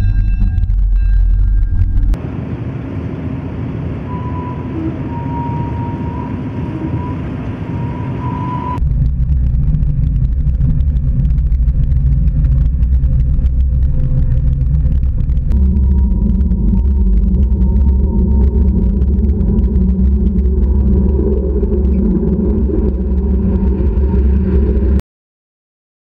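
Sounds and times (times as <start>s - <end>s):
heavy low rumble: 0.0s - 25.0s.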